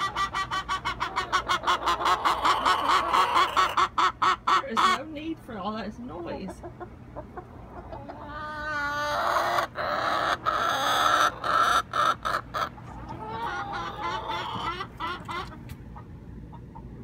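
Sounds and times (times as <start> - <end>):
hens squawking and clucking: 0.0 - 17.0.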